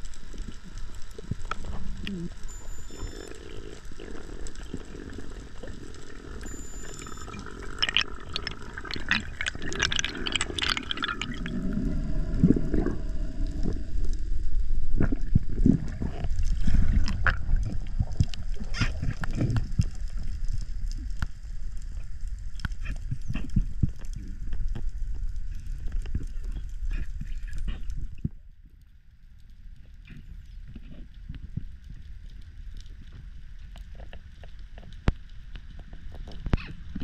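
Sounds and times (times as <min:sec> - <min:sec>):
underwater water movement: 0:00.0 - 0:28.5, 0:29.2 - 0:37.0.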